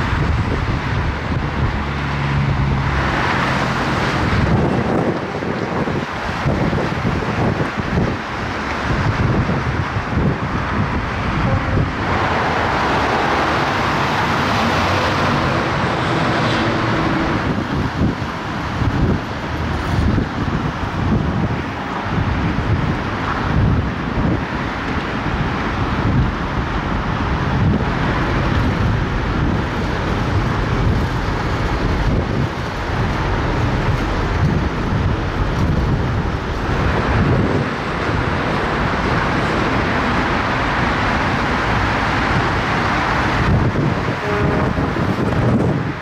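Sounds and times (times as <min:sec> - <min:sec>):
road traffic: 0:00.0 - 0:46.0
wind buffeting microphone: 0:00.0 - 0:46.0.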